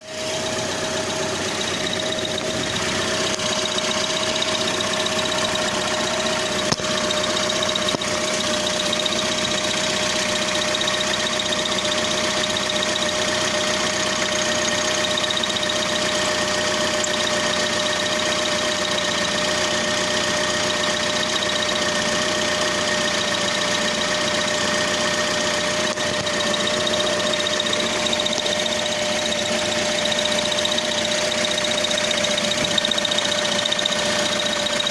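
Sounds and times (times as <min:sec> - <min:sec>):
car engine running: 0:00.0 - 0:34.9
gearbox whistle: 0:00.1 - 0:34.9.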